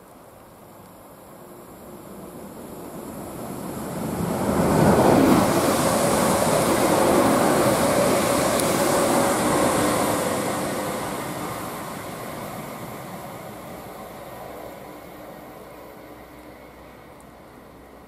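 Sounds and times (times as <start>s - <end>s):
electric train passing at speed: 0.0s - 18.0s.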